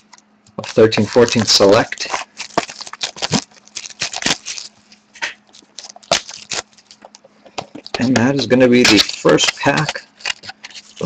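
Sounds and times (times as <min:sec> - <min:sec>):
card pack wrapper crinkling: 0:00.0 - 0:07.2, 0:07.8 - 0:11.0.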